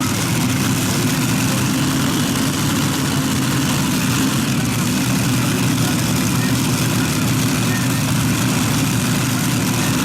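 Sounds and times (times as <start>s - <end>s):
heavy engine idling: 0.0s - 10.0s.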